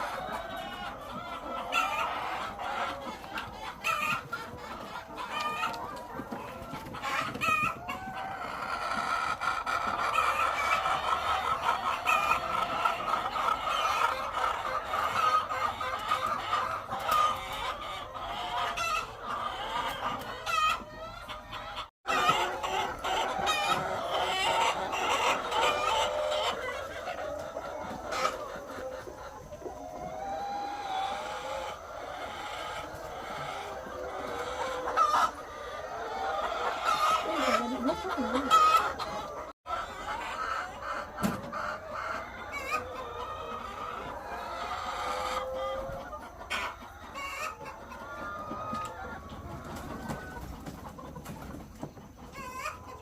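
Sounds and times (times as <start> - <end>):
chickens calling: 0.0 - 53.0.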